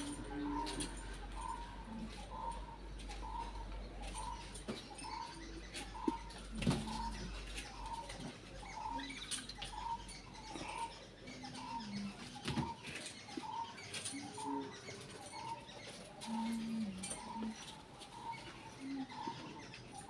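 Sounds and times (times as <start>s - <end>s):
low cooing notes: 0.0s - 20.0s.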